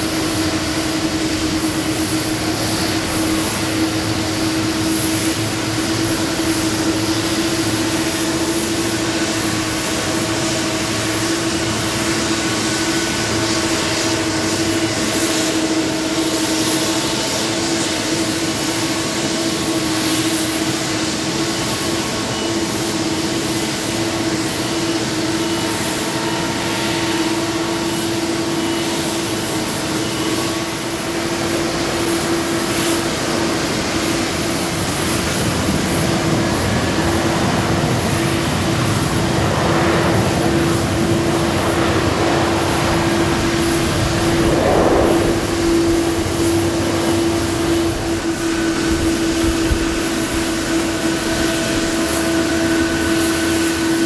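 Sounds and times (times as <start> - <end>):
constant droning hum: 0.0 - 54.0
jet engine roar: 0.0 - 54.0.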